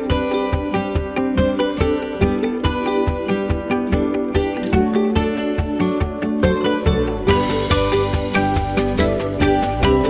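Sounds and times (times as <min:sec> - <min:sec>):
plucked guitar-like strings: 0:00.0 - 0:10.0
steady music beat: 0:00.0 - 0:10.0.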